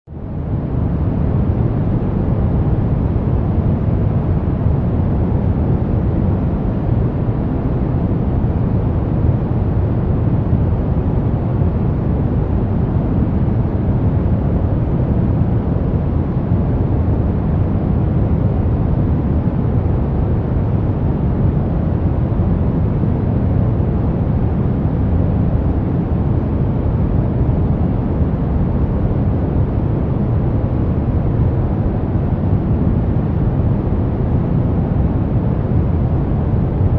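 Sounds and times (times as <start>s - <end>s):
brown noise: 0.1s - 36.9s.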